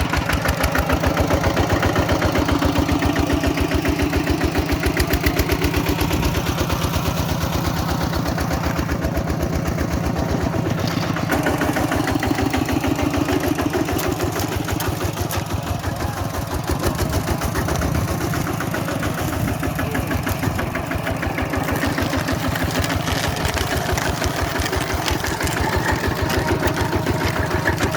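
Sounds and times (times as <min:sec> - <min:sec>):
tractor engine chugging: 0:00.0 - 0:27.9.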